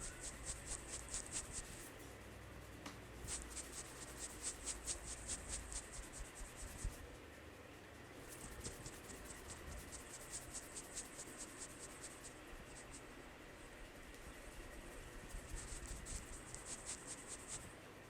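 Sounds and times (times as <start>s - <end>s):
fingers scratching through hair: 0.0s - 2.0s, 3.2s - 7.1s, 8.2s - 17.8s.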